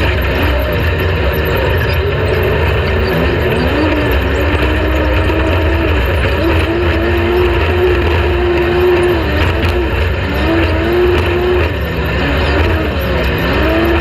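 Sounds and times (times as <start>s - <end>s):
engine running at high revs: 0.0s - 14.0s.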